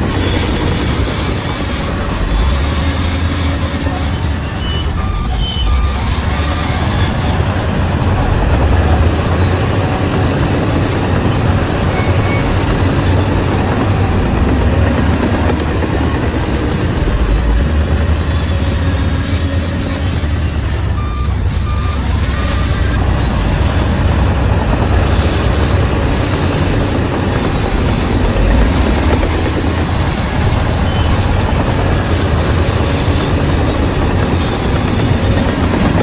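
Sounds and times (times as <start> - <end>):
bulldozer diesel rumble: 0.0 - 36.0
steel tracks squealing: 0.0 - 36.0.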